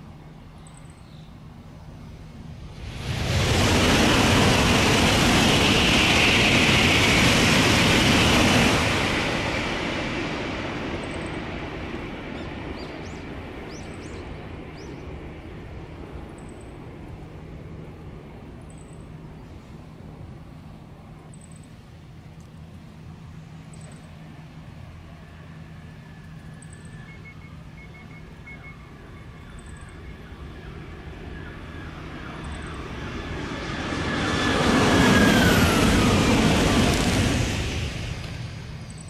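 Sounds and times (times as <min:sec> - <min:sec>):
high-speed train rushing past: 0:00.0 - 0:39.0.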